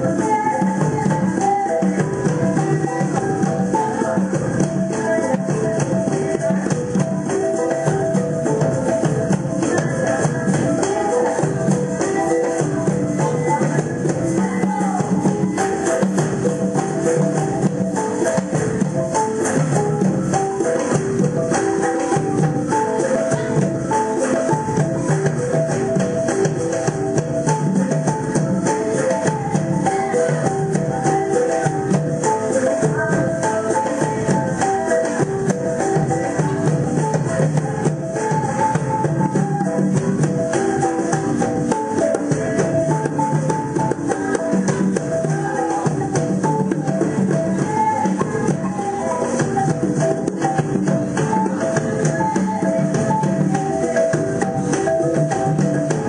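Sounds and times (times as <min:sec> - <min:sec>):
drums: 0:00.0 - 0:56.0
melody of quick repeated notes: 0:00.0 - 0:56.0
shaker rattle: 0:00.0 - 0:56.0.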